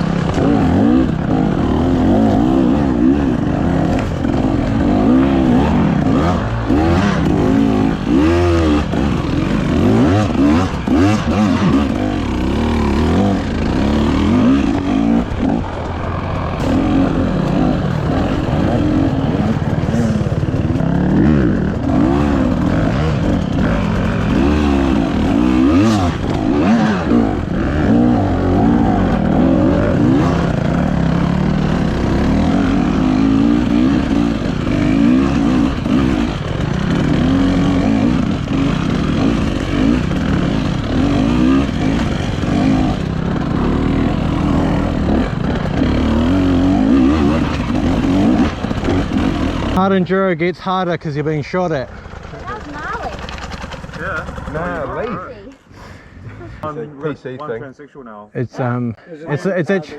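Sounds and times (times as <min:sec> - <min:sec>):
dirt bike engine revving: 0:00.0 - 0:50.8, 0:51.4 - 0:55.5.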